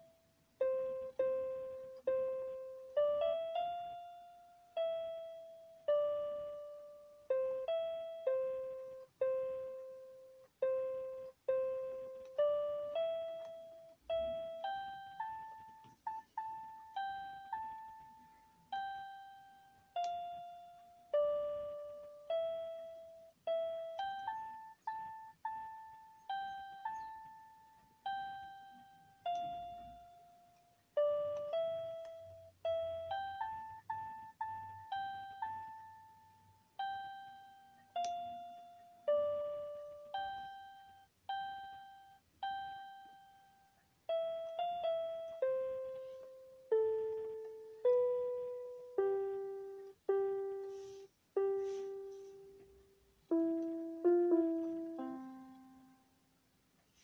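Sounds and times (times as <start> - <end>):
electronic keyboard melody: 0.0 - 57.0.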